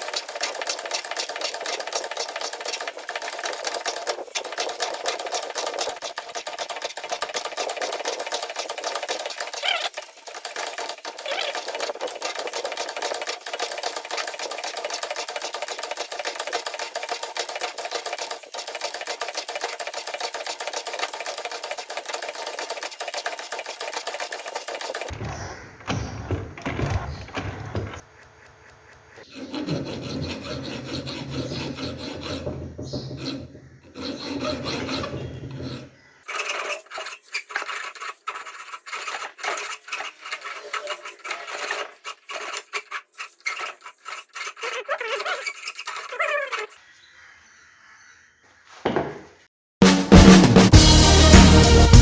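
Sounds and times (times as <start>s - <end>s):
metal lathe gears clattering: 0.0s - 46.8s.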